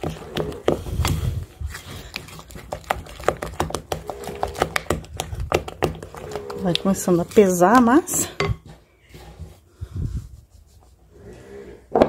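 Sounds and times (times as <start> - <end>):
spoon stirring thick batter: 0.0 - 11.4.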